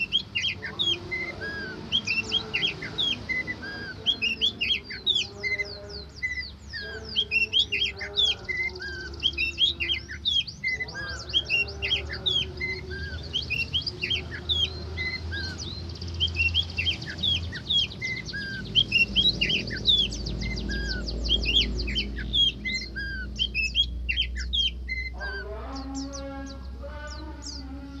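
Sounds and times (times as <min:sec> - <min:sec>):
bird singing whistles and chirps: 0:00.0 - 0:28.0.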